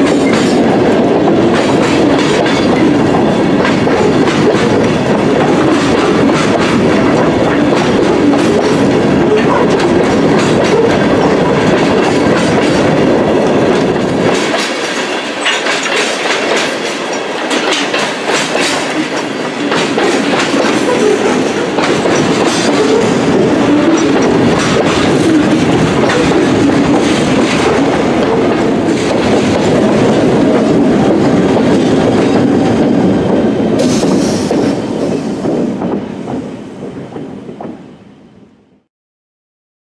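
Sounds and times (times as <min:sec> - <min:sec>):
train wheels clicking over rail joints: 0:00.0 - 0:38.0
diesel locomotives passing: 0:00.0 - 0:38.5.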